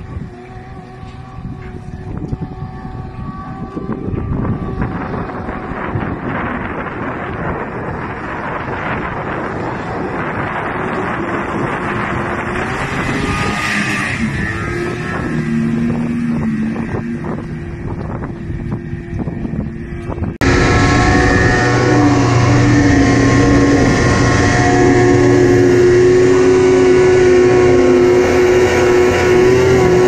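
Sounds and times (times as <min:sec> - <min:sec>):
snowmobile engine at high revs: 0:00.0 - 0:30.0
wind on microphone: 0:00.0 - 0:30.0.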